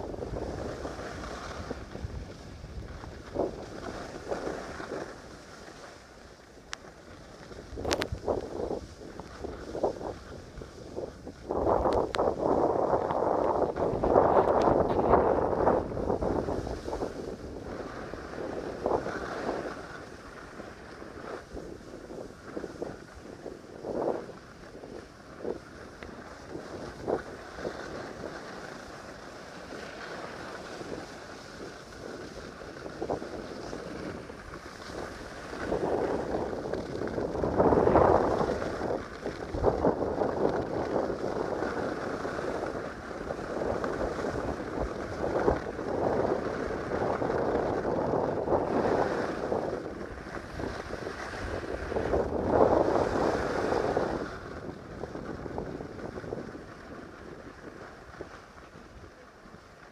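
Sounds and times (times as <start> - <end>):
wind buffeting microphone: 0.0 - 59.9
skis hissing on snow: 0.1 - 57.0.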